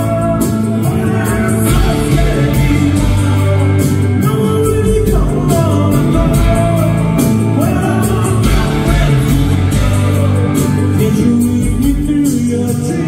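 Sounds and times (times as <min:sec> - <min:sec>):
acoustic guitar strumming: 0:00.0 - 0:13.0
drums: 0:00.0 - 0:13.0
electric guitar: 0:00.0 - 0:13.0
man singing: 0:00.0 - 0:13.0.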